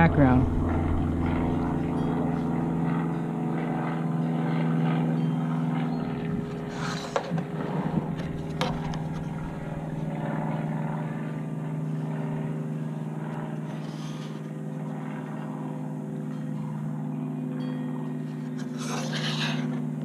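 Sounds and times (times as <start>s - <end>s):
propeller airplane engine drone: 0.0s - 20.0s.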